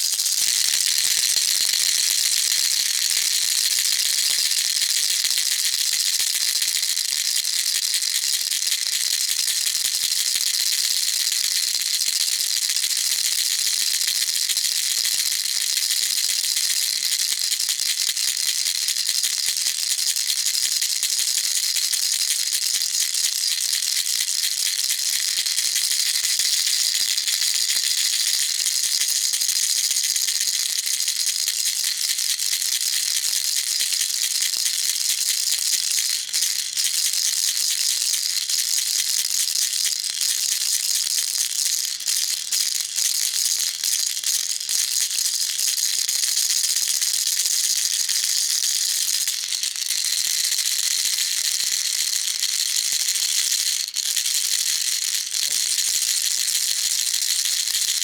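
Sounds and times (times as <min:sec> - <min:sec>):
baby rattle shaken: 0:00.0 - 0:19.7, 0:21.3 - 0:58.0.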